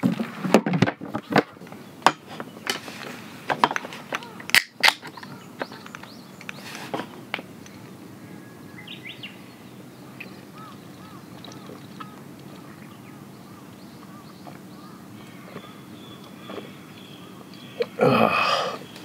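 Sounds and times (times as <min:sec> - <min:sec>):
birds chirping: 0:01.1 - 0:19.0.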